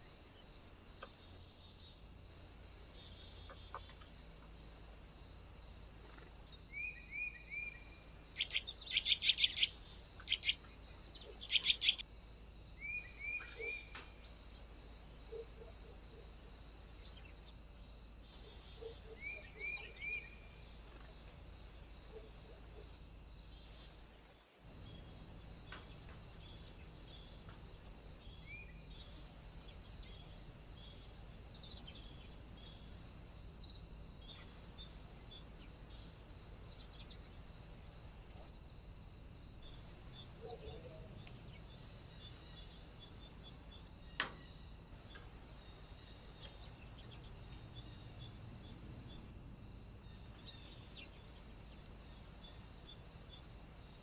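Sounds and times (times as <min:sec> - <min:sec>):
small birds chirping: 0:00.0 - 0:54.0
steady high-pitched hiss: 0:00.0 - 0:54.0.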